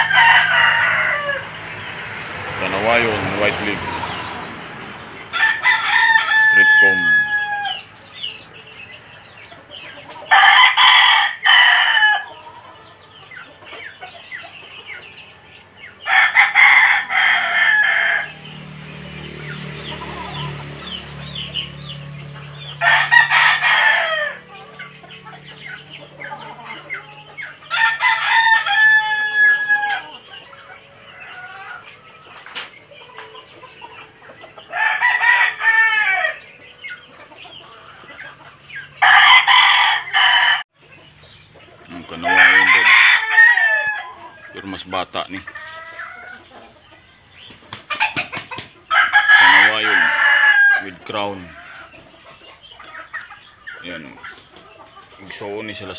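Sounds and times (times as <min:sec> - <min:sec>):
roosters crowing: 0:00.0 - 0:55.9.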